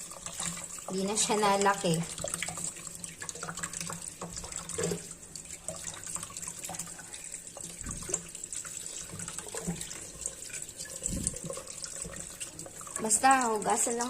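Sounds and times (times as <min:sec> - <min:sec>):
small splashes and drips: 0:00.0 - 0:14.0
water running from a tap: 0:00.0 - 0:14.0.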